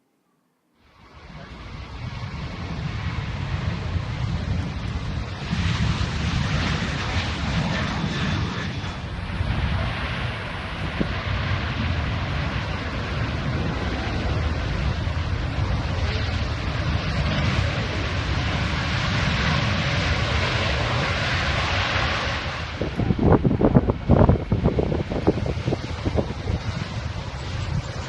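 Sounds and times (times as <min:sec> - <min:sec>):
jet engines roaring: 0:00.8 - 0:28.0.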